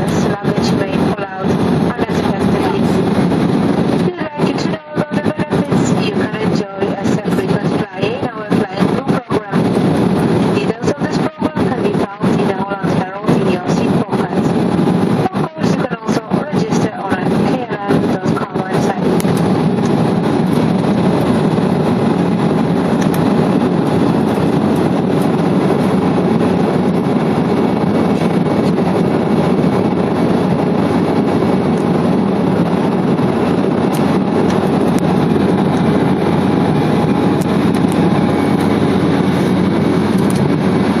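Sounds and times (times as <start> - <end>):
airplane cabin rushing noise: 0.0 - 41.0
faint steady whines: 0.0 - 41.0.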